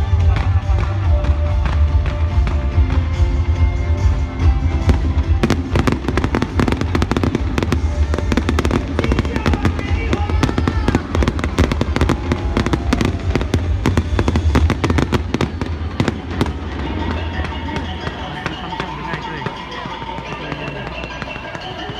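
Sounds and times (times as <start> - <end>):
fireworks bangs and crackles: 0.0 - 21.9
loud music with heavy bass: 0.0 - 21.9.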